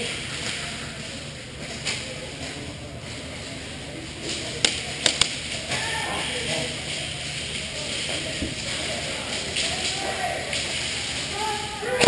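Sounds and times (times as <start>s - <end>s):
hall background noise: 0.0s - 12.0s.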